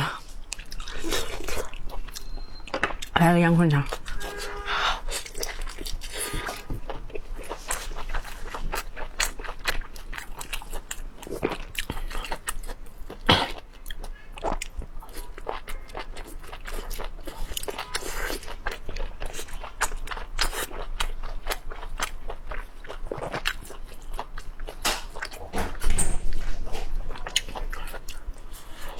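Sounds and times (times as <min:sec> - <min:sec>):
wet chewing and lip smacks: 0:00.3 - 0:04.4, 0:05.0 - 0:25.7, 0:26.6 - 0:28.9.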